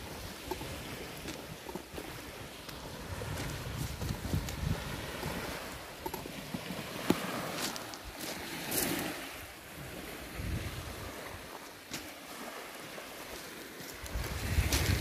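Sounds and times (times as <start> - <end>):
wind rumbling on microphone: 0.0 - 11.7, 13.4 - 15.0
waves lapping on pebbles: 0.0 - 15.0.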